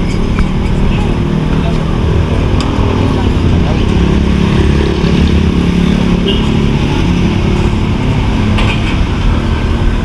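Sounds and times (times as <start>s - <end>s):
road noise: 0.0s - 10.0s
vehicle engine humming: 0.0s - 10.0s.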